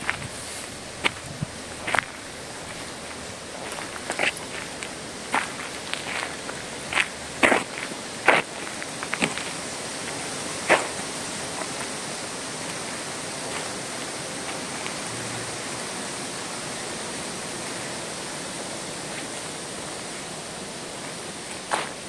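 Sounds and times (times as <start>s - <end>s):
forest ambience hiss: 0.0s - 22.0s.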